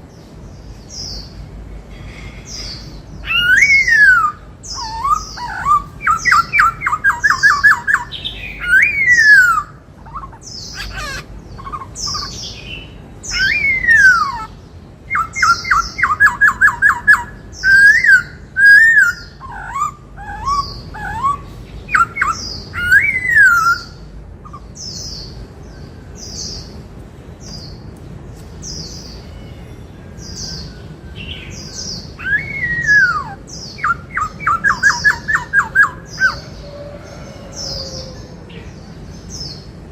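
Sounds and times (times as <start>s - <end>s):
high sharp bird calls: 0.0s - 26.8s, 28.6s - 39.7s
bird singing whistled notes: 2.7s - 26.7s, 30.2s - 38.1s.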